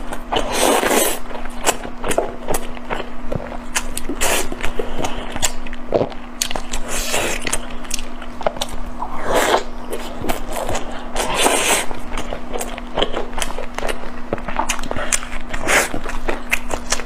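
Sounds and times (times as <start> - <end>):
faint steady hum: 0.0 - 17.0
wet chewing: 0.0 - 17.0.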